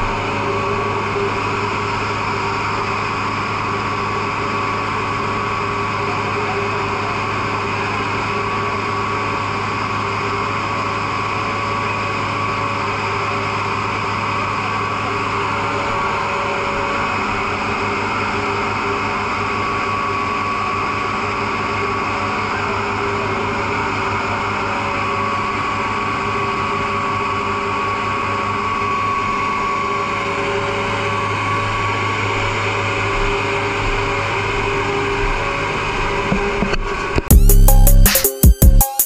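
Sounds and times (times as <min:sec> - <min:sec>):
fire truck engine running: 0:00.0 - 0:38.1.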